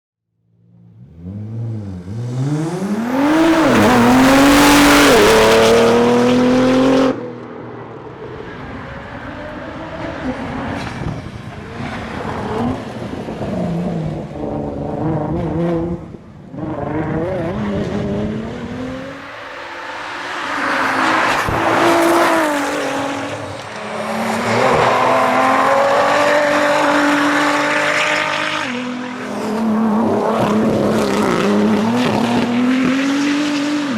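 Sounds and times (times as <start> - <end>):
racing car engine accelerating: 0.7 - 7.4, 8.4 - 33.9.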